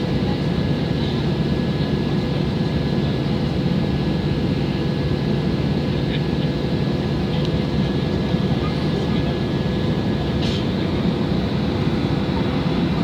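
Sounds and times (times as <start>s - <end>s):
faint steady whines: 0.0s - 13.0s
jet engine drone in cabin: 0.0s - 13.0s.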